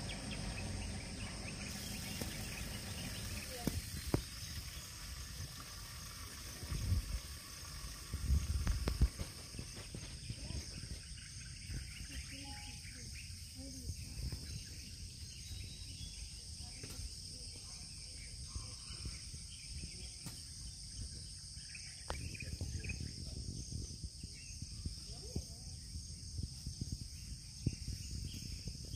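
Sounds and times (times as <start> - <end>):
high-pitched insect chorus: 0.0 - 28.9
low rumbling background: 0.0 - 28.9.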